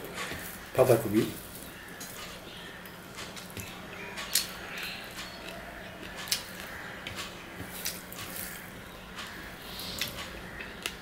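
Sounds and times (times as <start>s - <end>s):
fingers mixing rice on steel plate: 0.0s - 11.0s.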